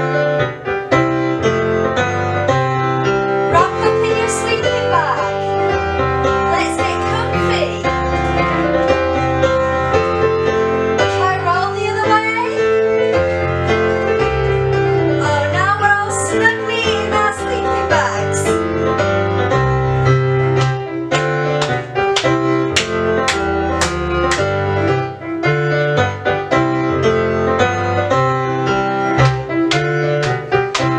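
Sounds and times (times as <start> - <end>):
instrumental piano music: 0.0 - 30.9.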